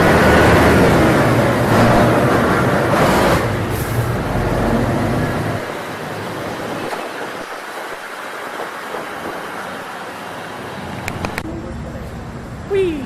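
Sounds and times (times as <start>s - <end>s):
road traffic noise: 0.0s - 13.0s
vehicle low rumble: 0.0s - 13.0s.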